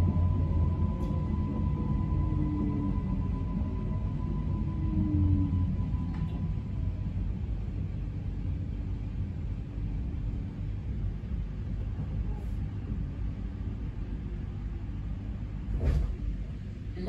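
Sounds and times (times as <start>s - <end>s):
faint steady hum: 0.0s - 17.0s
train rumble slowing: 0.0s - 17.0s.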